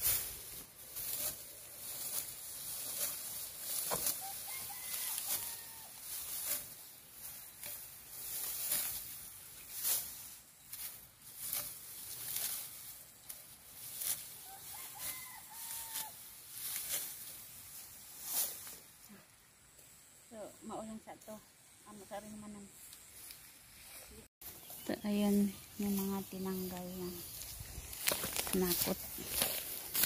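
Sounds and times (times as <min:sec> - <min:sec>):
sickle swishing through stalks: 0:00.0 - 0:19.1, 0:22.8 - 0:30.0.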